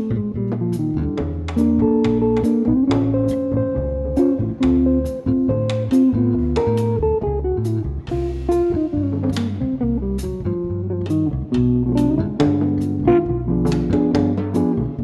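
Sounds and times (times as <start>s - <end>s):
electric bass line: 0.0s - 15.0s
electric guitar chords and melody: 0.0s - 15.0s.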